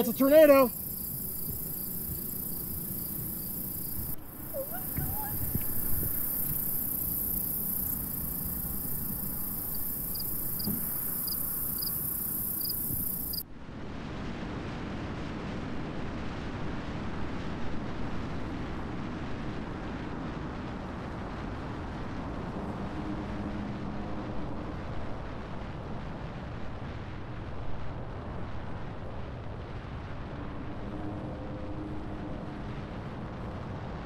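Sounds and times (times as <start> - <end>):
rushing wind: 0.0 - 34.0.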